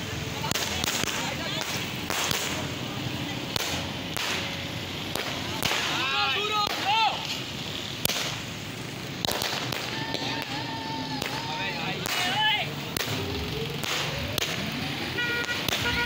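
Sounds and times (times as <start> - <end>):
firecrackers cracking: 0.0 - 16.0
street crowd din: 0.0 - 16.0.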